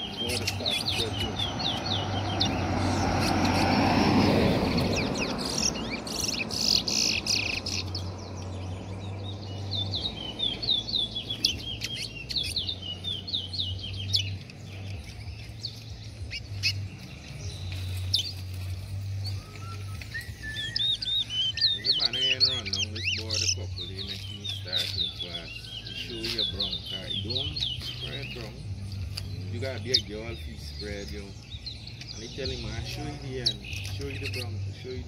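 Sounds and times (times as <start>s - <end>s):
finches chirping: 0.0s - 35.0s.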